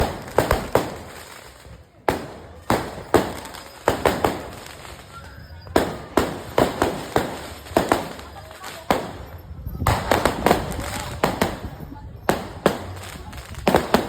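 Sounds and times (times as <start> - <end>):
fireworks banging: 0.0 - 14.0.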